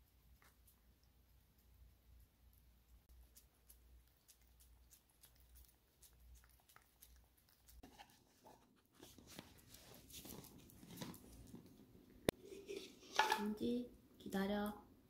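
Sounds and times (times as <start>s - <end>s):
cat gnawing chew stick: 0.0s - 12.3s.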